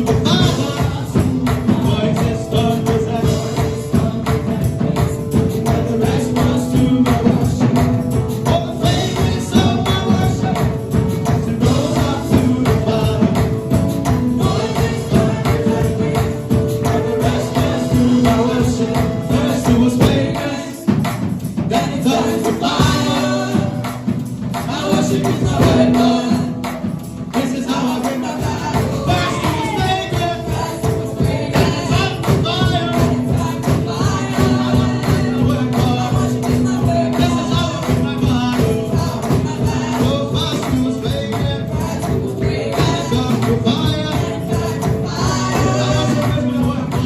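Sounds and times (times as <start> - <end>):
people singing together: 0.0 - 47.0
tambourine shaking: 0.0 - 47.0
upbeat gospel music: 0.0 - 47.0.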